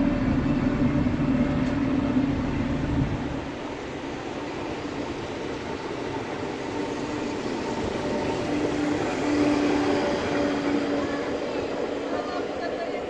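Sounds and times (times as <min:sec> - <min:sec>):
train humming tone: 0:00.0 - 0:13.0
train wheels on track: 0:00.0 - 0:13.0.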